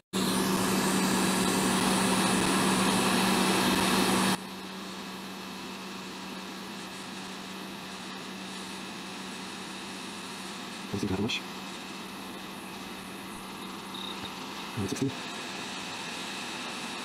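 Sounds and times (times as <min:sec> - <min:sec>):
hot air station blowing: 0:00.0 - 0:17.0.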